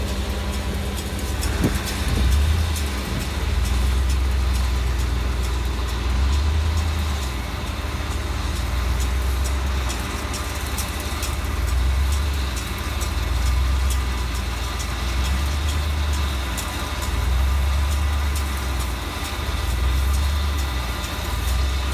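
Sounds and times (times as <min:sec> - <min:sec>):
tractor diesel engine drone: 0:00.0 - 0:21.9.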